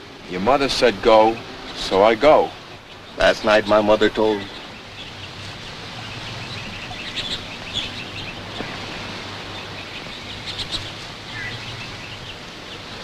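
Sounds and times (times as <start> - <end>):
background hiss: 0.0 - 13.0
birds chirping: 0.0 - 13.0.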